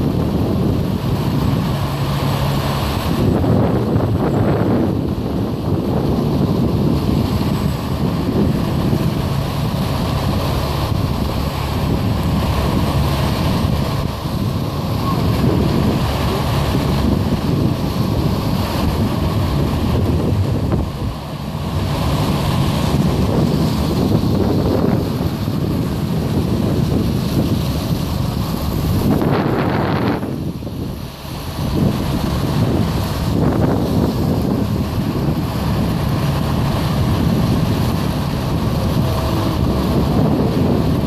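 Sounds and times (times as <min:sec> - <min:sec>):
rumble of passing vehicles: 0:00.0 - 0:41.0
wind buffeting microphone: 0:00.0 - 0:41.0.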